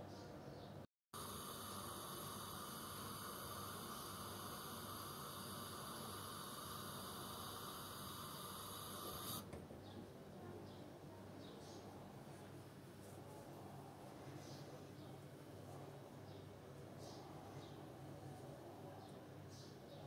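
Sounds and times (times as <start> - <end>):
electrical hum: 1.2 - 20.0.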